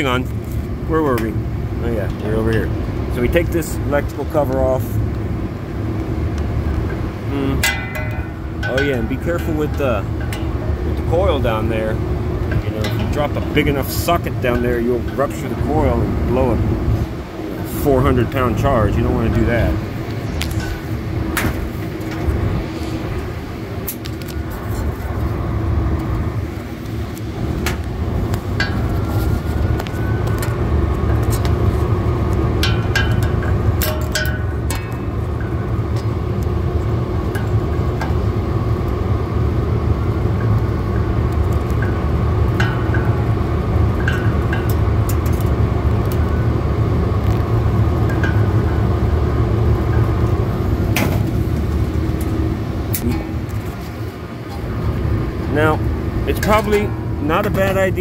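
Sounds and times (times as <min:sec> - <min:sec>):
condenser machinery rumble and hum: 0:00.0 - 0:58.0.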